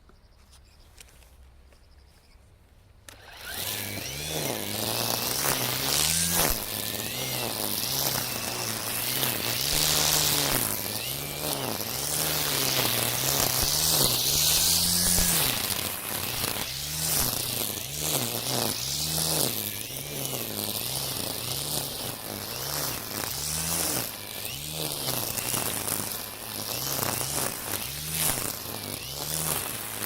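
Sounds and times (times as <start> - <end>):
brushcutter cutting weeds: 3.0 - 30.0.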